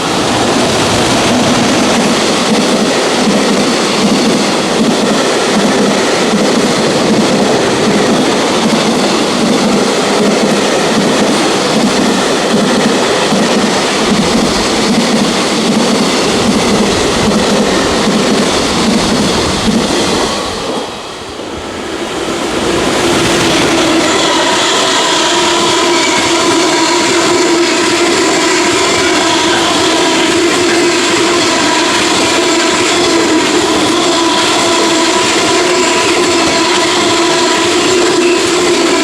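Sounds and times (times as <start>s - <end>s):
freight train rumbling past: 0.0s - 39.0s
train whine: 0.0s - 39.0s.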